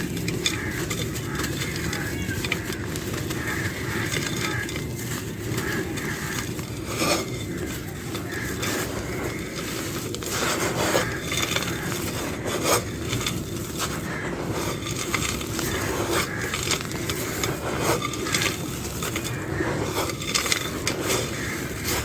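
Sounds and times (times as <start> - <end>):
dry clay crumbling by hand: 0.0 - 22.0.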